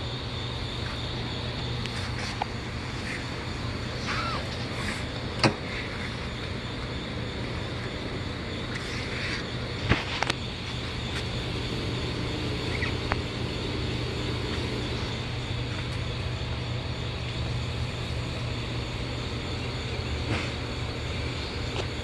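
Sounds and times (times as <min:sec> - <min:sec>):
battery charger humming: 0:00.0 - 0:22.0.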